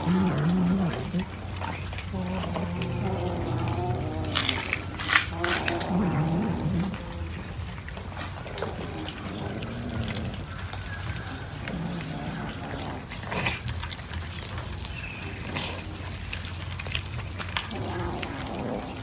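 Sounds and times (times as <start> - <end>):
cats chewing wetly: 0.0 - 19.0.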